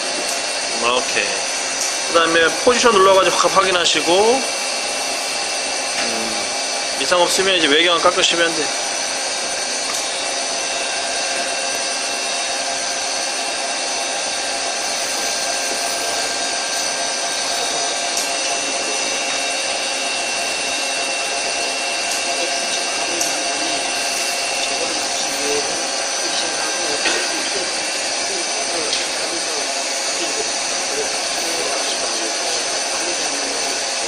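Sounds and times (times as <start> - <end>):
lathe running with high whine: 0.0 - 34.0.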